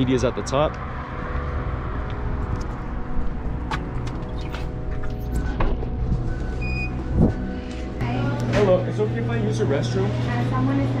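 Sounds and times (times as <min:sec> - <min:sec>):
steady low hum: 0:00.8 - 0:11.0.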